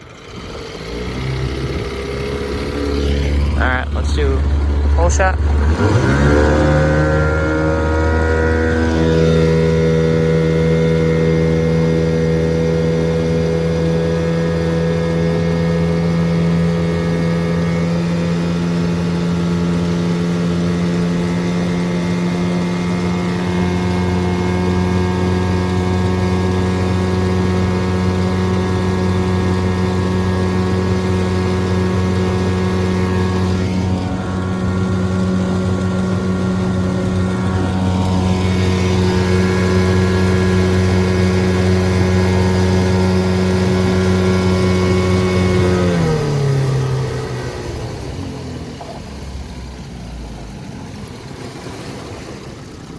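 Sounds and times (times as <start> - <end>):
outboard motor at full throttle: 0.0 - 52.9.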